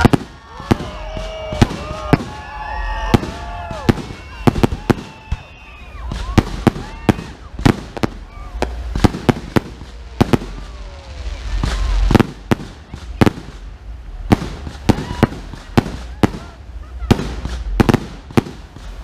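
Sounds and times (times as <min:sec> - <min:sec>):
firework rushing hiss: 0:00.0 - 0:19.0
fireworks bangs: 0:00.0 - 0:19.0.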